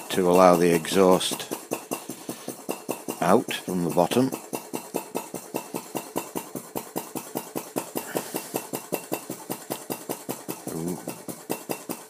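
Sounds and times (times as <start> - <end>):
model engine fast clicking: 0.0 - 12.0.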